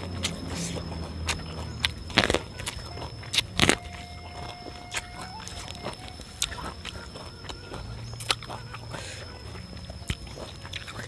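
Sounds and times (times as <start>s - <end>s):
chewing corn kernels: 0.0s - 11.0s
sharp crunches: 0.0s - 11.0s.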